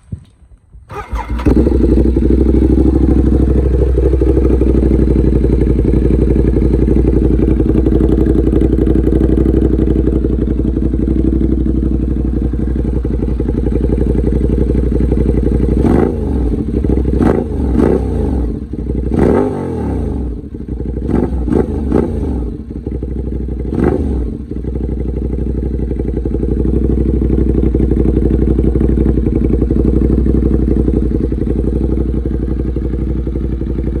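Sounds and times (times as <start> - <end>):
motorcycle engine idling and revving: 0.2 - 34.0.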